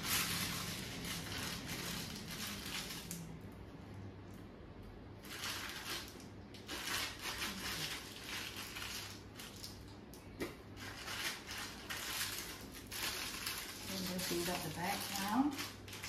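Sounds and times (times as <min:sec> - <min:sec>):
plastic piping bag crinkling: 0:00.0 - 0:03.7, 0:05.2 - 0:16.0.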